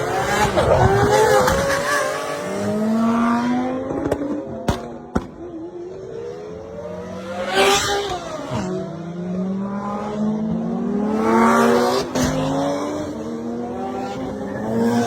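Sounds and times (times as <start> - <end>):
sports car engines passing by: 0.0 - 15.0.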